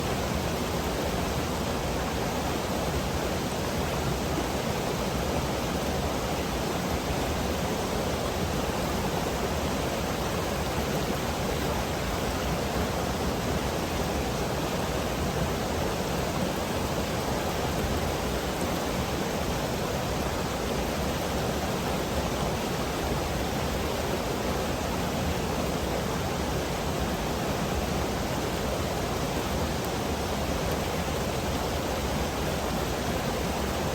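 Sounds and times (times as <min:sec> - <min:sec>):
river rushing over rocks: 0:00.0 - 0:33.9.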